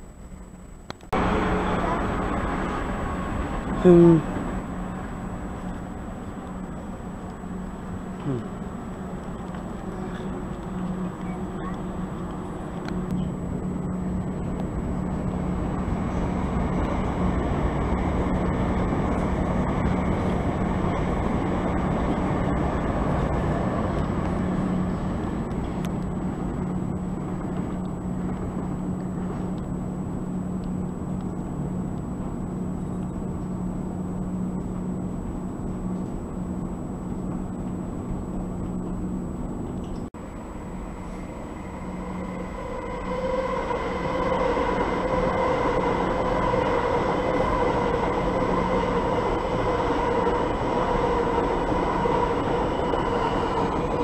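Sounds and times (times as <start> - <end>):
electric train rumbling: 0.0 - 54.0
electric train whine: 0.0 - 54.0.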